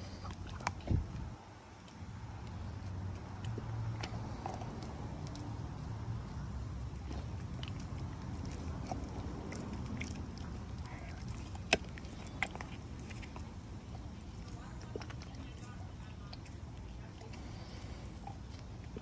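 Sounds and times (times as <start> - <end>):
teeth clicking on bone: 0.0 - 6.2, 6.8 - 19.0
dog gnawing and crunching bone: 0.0 - 19.0.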